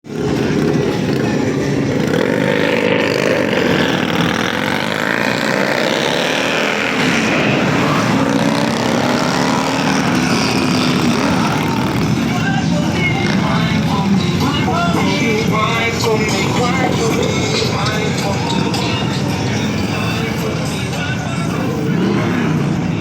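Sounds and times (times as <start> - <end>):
vehicle engines in traffic: 0.0 - 23.0.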